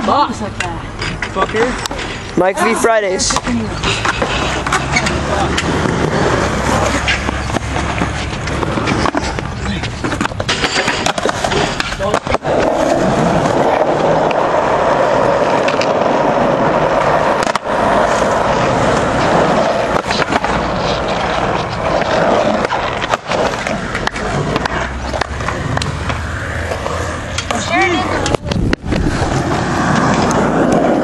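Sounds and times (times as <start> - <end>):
skateboard wheels rolling on concrete: 0.0 - 31.0
skateboard clacks: 3.2 - 31.0.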